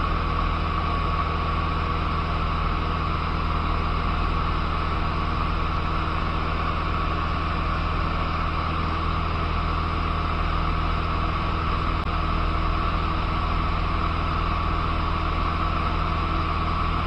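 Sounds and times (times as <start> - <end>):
light aircraft engine and propeller: 0.0 - 17.0.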